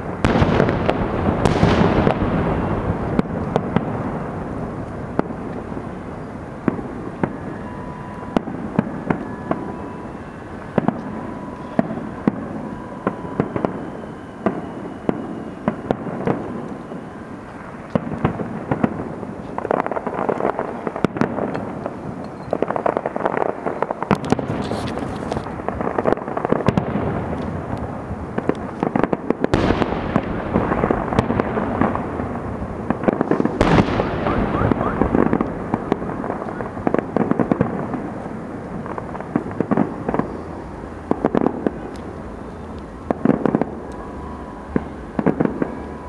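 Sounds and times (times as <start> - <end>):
crackling rumble: 0.0 - 46.0
fireworks bangs: 0.0 - 46.0
fireworks whistles: 0.0 - 46.0.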